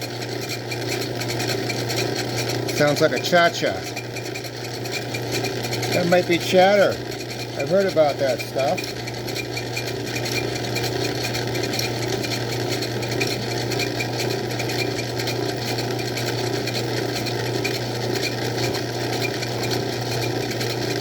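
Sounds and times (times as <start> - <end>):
lathe motor hum: 0.0 - 21.0
rhythmic lathe clatter: 0.0 - 21.0.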